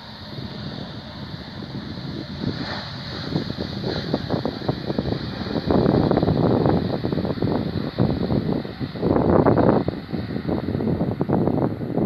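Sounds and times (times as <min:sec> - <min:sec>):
distant jet engine whine: 0:00.0 - 0:12.0
wind buffeting microphone: 0:00.0 - 0:12.0.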